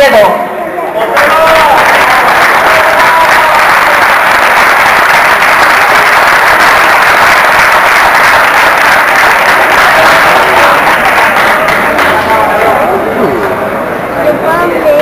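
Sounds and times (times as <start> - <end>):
audience applauding: 1.0 - 13.7.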